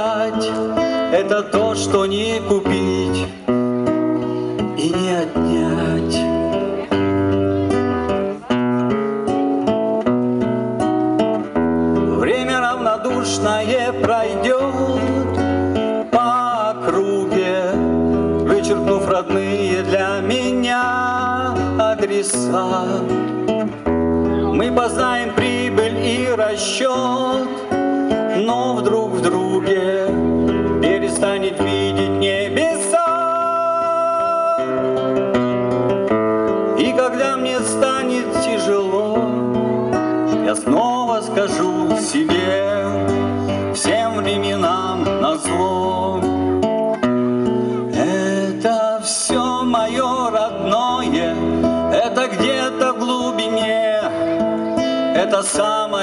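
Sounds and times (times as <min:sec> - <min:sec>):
acoustic guitar: 0:00.0 - 0:56.0
man singing: 0:00.0 - 0:56.0.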